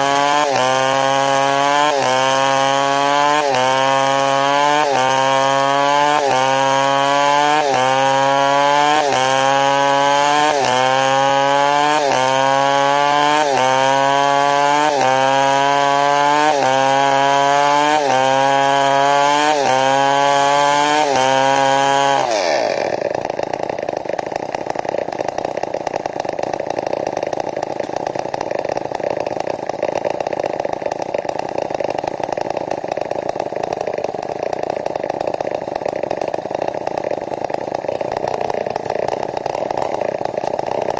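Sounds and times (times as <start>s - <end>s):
chainsaw cutting timber: 0.0s - 40.9s
chainsaw idling: 0.0s - 40.9s.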